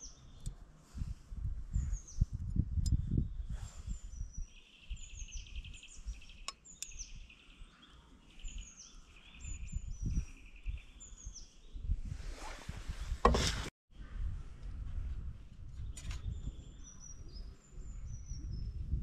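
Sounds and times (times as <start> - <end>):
songbirds chirping and trilling: 0.0 - 12.1, 15.6 - 19.0.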